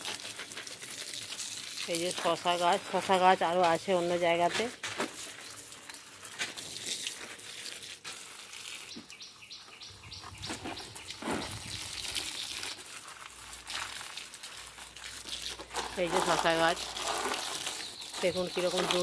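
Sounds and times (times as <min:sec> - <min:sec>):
plastic sheet and leaves rustling: 0:00.0 - 0:19.0.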